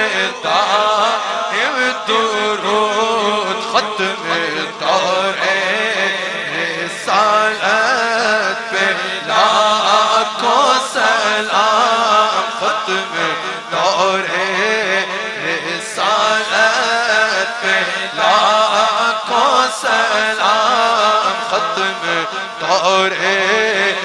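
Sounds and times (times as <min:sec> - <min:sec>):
person chanting melody: 0:00.0 - 0:24.0.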